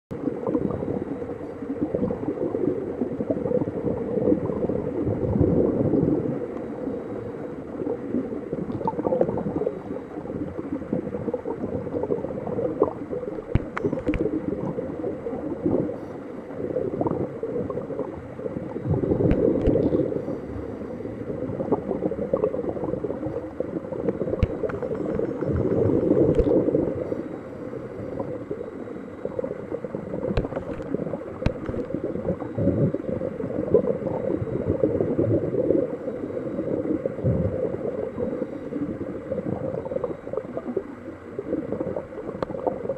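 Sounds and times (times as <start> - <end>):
exhaled bubbles: 0.1 - 42.9.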